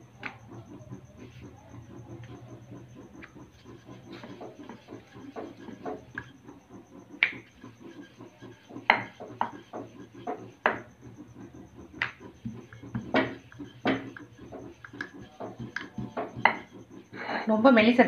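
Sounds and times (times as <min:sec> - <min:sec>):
rolling pin rumbling on board: 0:00.0 - 0:17.2.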